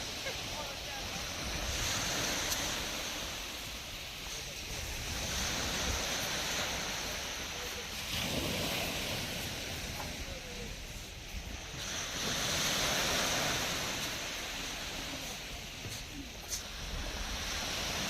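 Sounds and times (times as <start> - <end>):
waves breaking on shore: 0.0 - 18.0
wind rumbling on microphone: 0.0 - 18.0.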